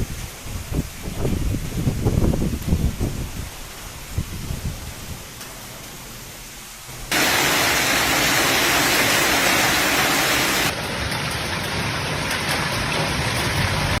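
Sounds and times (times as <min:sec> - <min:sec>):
heavy rain rushing: 0:00.0 - 0:14.0.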